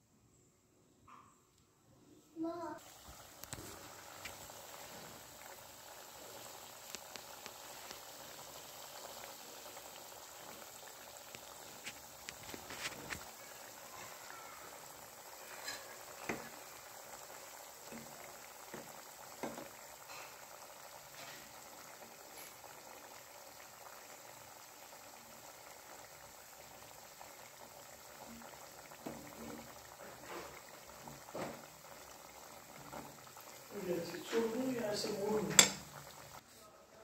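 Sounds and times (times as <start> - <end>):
dough sizzling in hot oil: 2.5 - 36.4
oil popping: 2.8 - 13.3, 14.1 - 36.4.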